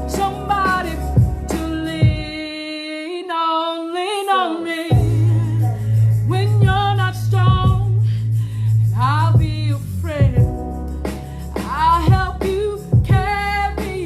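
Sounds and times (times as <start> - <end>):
instrumental backing: 0.0 - 2.5, 4.4 - 14.0.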